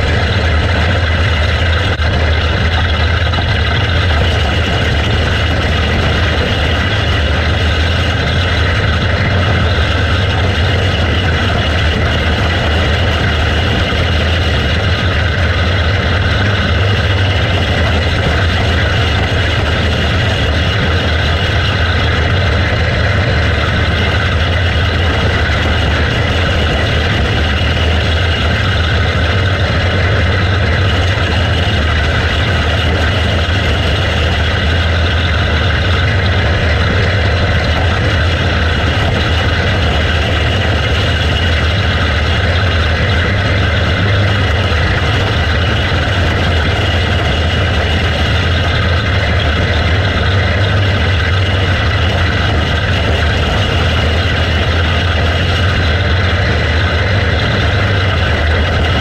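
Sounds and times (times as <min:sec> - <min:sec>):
kart engine running: 0:00.0 - 0:59.0
other kart engines: 0:00.0 - 0:59.0.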